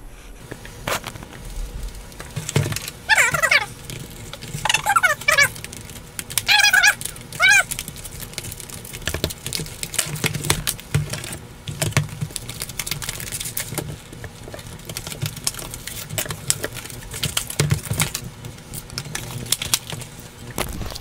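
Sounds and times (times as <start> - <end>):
plastic packaging crackling: 0.4 - 21.0.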